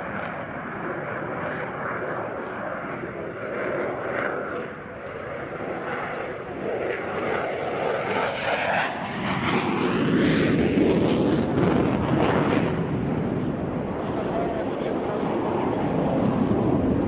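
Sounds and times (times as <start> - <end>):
fighter jet engine with crackle: 0.0 - 17.0.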